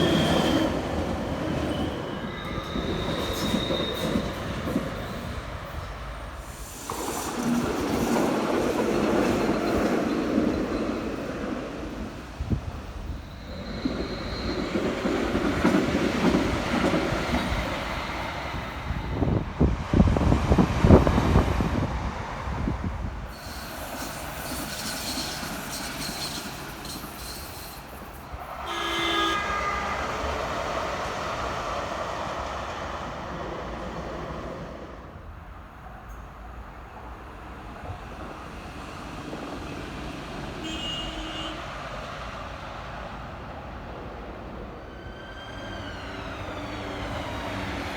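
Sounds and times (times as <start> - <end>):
high hiss of tram running: 0.0 - 35.1, 37.0 - 47.9
tram passing with rail clicks: 0.0 - 47.9.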